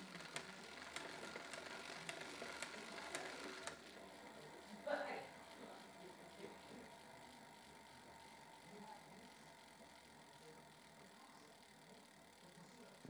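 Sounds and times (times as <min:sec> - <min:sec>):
bicycle freehub ticking: 0:00.0 - 0:13.0.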